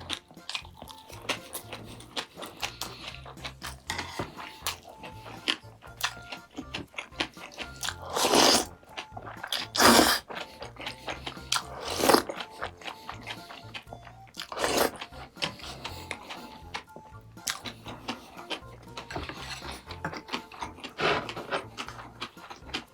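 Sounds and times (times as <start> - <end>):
chewing and crunching: 0.0 - 22.9
soft background music: 0.0 - 22.9.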